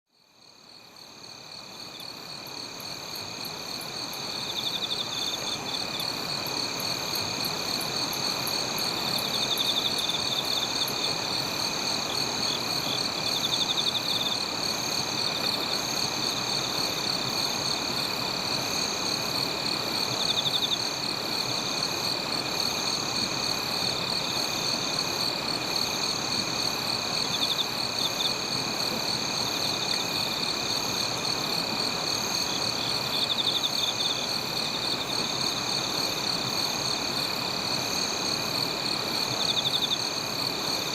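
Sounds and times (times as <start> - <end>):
crickets and insects trilling: 0.2 - 40.9.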